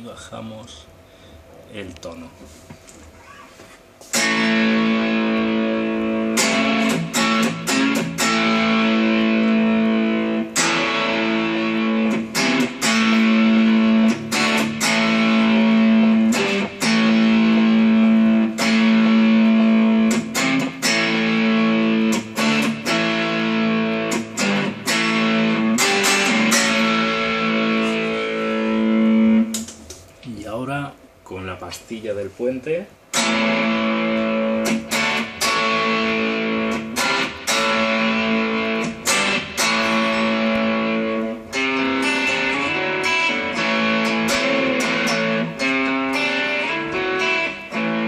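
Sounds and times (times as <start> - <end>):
overdriven electric guitar chords: 4.0 - 29.9, 33.0 - 48.0.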